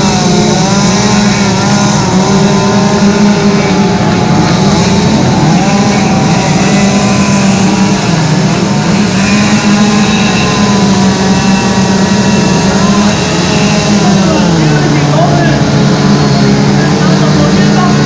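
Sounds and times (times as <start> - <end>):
chainsaws carving wood: 0.0 - 18.0.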